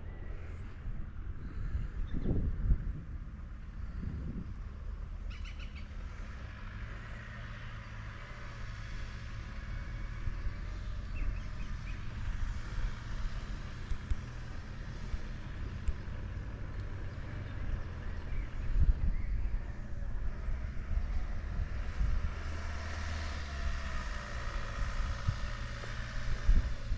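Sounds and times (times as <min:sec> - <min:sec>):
vehicle engine running at low revs: 0:00.0 - 0:26.9.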